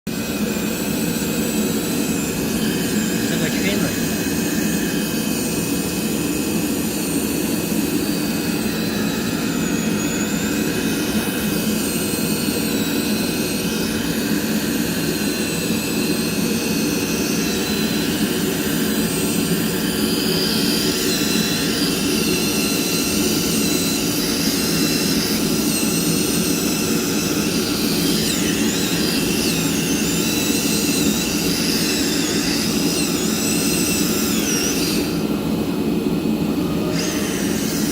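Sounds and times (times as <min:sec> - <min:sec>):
cutting machine running: 0:00.1 - 0:37.9
faint high whines: 0:00.1 - 0:37.9.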